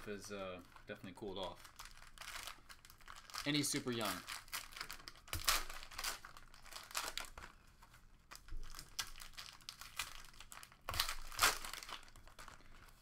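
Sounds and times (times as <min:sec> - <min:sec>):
plastic wrappers crinkling: 0:00.0 - 0:13.0.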